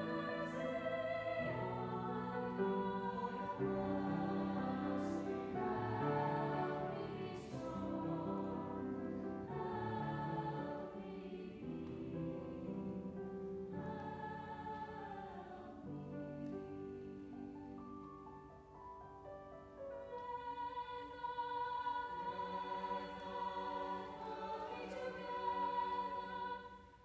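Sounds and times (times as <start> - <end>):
church choir singing: 0.0 - 17.8, 20.0 - 27.0.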